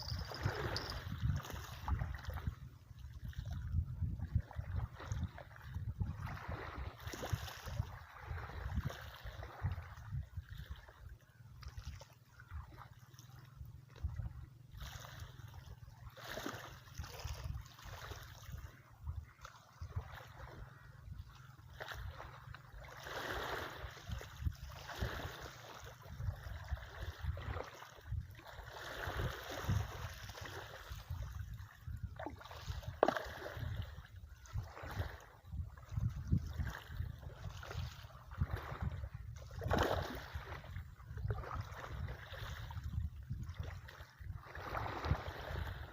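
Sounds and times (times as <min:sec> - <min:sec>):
wind buffeting microphone: 0:00.0 - 0:12.8, 0:13.9 - 0:14.9, 0:22.0 - 0:45.9.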